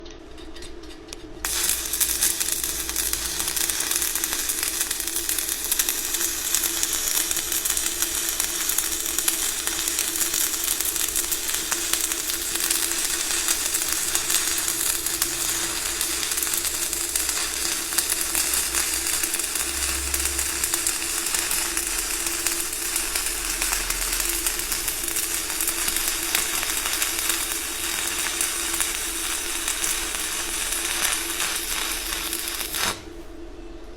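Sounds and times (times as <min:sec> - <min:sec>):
welding arc crackling: 0:01.4 - 0:33.2.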